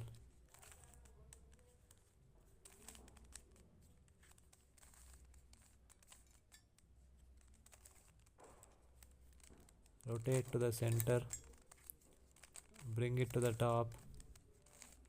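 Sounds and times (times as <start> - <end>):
puzzle cube plastic clicks: 0.0 - 15.0.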